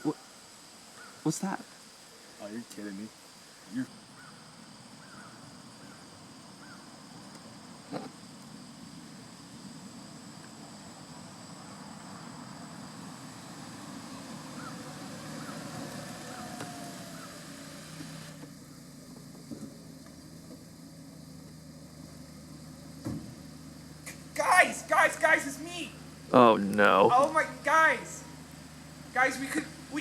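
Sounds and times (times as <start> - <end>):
vehicle engine rumble: 1.9 - 30.0.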